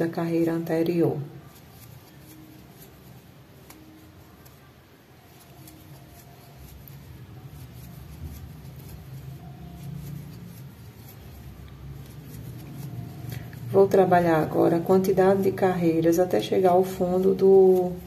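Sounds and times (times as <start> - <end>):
crochet hook rustling yarn: 0.0 - 18.0.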